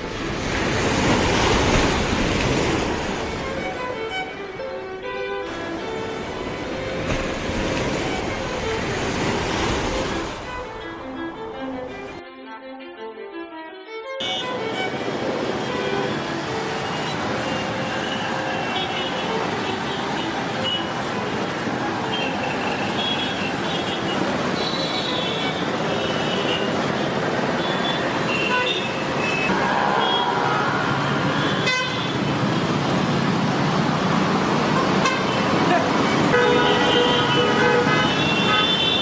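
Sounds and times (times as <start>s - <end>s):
steady traffic: 0.0s - 39.0s.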